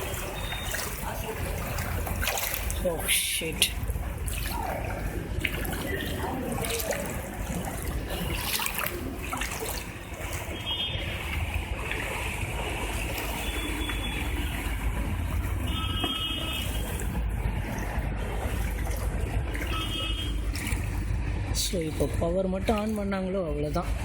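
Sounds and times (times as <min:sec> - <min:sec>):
floodwater sloshing and trickling: 0:00.0 - 0:24.0.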